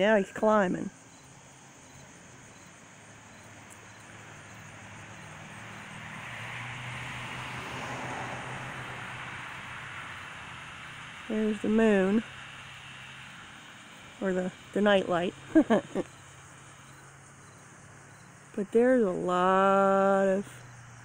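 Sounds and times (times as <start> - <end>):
jet airplane rumble overhead: 0.0 - 21.0.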